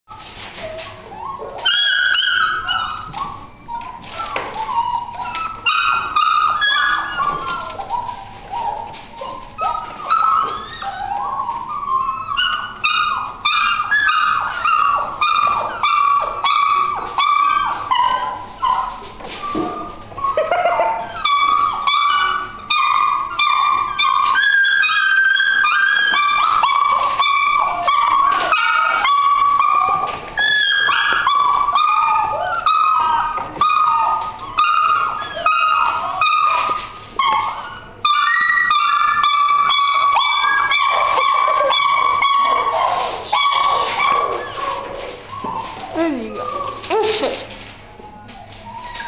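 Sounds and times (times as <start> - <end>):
puppies whining and yipping: 0.1 - 49.0.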